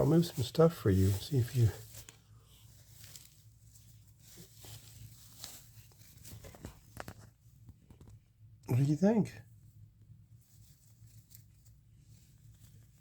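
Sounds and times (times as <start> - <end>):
hamster rustling in bedding: 0.0 - 8.2, 9.6 - 13.0
low steady hum: 0.0 - 13.0.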